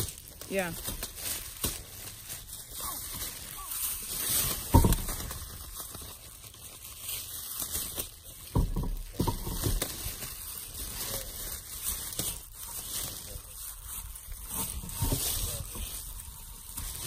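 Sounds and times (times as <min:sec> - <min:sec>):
crinkling and rustling handling noise: 0:00.0 - 0:17.0.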